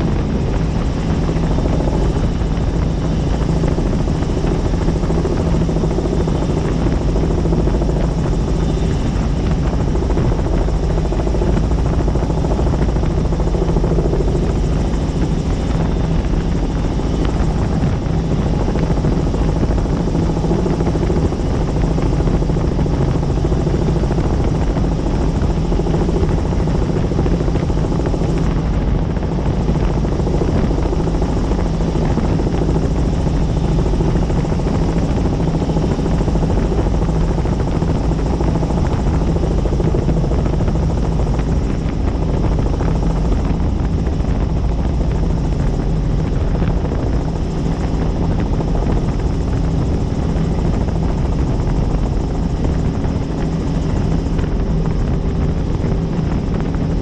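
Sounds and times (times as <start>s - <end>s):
helicopter rotor and engine noise: 0.0s - 57.0s.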